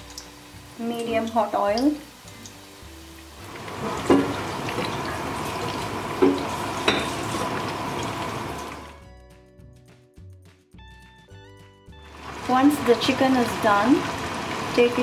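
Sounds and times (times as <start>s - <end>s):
oil sizzling and bubbling: 0.0s - 9.1s, 12.0s - 15.0s
soft background music: 0.0s - 15.0s.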